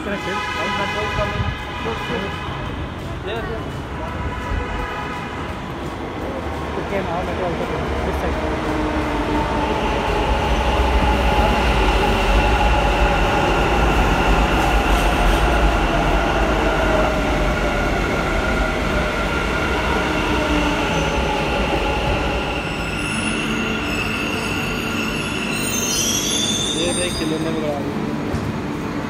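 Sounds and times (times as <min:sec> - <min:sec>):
electric train rumble: 0:00.0 - 0:29.0.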